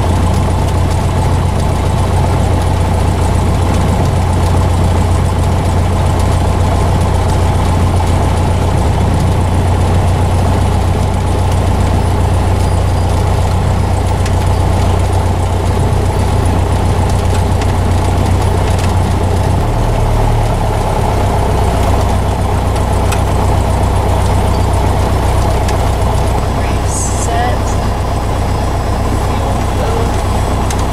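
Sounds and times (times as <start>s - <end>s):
light airplane engine droning: 0.0s - 30.9s.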